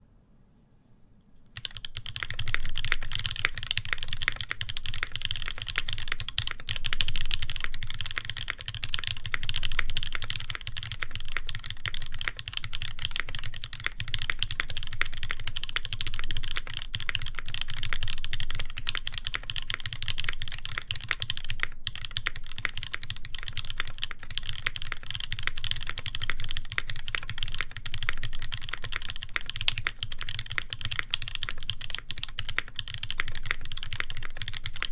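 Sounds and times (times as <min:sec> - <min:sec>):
mechanical keyboard typing: 0:01.5 - 0:34.9.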